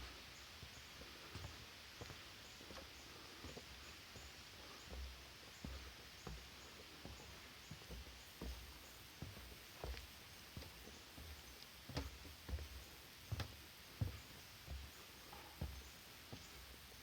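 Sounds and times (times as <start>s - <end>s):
faint footsteps on forest trail: 0.0s - 17.0s
steady hiss: 0.0s - 17.0s.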